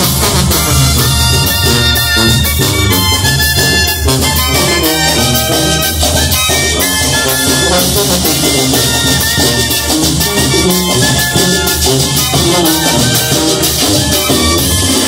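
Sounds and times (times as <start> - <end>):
bass drum and snare beat: 0.0 - 15.0
brass band playing: 0.0 - 15.0
sousaphone bass line: 0.0 - 15.0.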